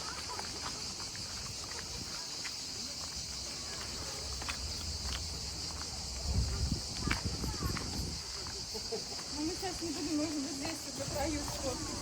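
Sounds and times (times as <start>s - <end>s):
light footstep clicks: 0.0s - 11.9s
high-pitched insect chorus: 0.0s - 12.0s.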